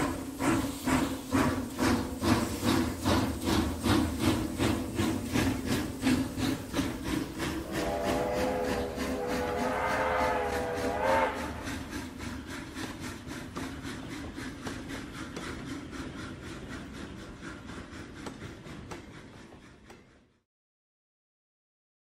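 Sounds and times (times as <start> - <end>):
steam train chuffing and clatter: 0.0 - 20.5.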